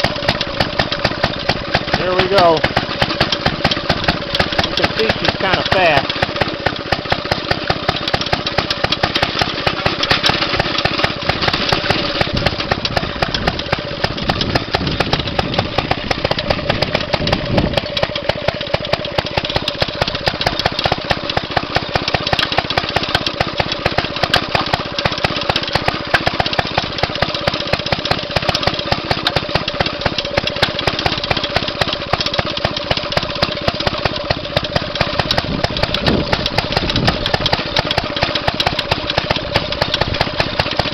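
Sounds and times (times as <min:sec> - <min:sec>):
two-stroke engine running fast: 0:00.0 - 0:40.9.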